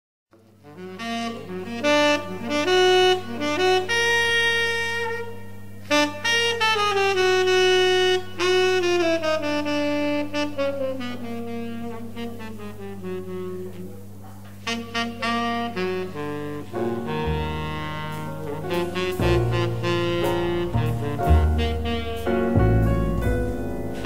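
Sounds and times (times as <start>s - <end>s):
instrumental melody: 0.4s - 24.0s
steady low hum: 0.4s - 24.0s.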